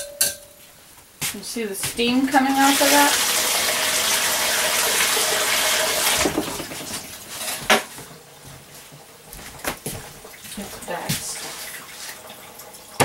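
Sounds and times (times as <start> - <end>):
water running from tap: 1.9 - 13.0.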